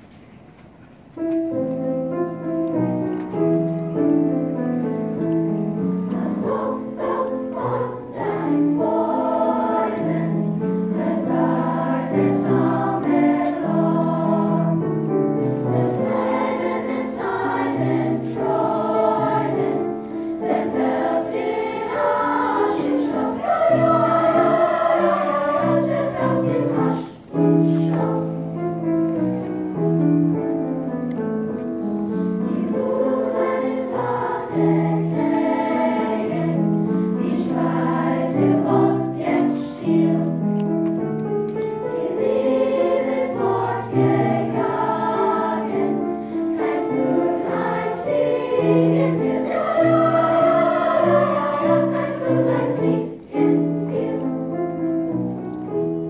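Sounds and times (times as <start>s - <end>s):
children's choir singing: 2.2s - 56.0s.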